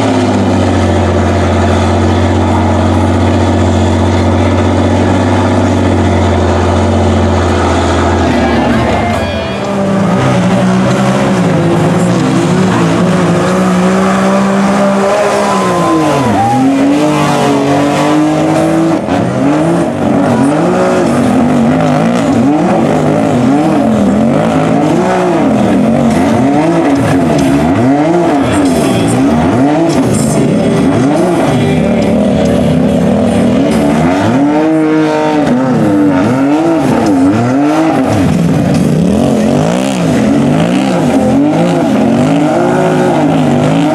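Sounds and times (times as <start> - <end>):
utv engines revving: 0.0 - 43.9.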